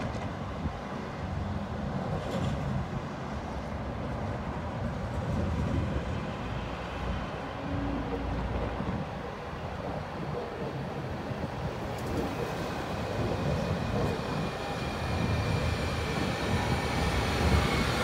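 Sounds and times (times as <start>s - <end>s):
tram low rumble: 0.0s - 18.0s.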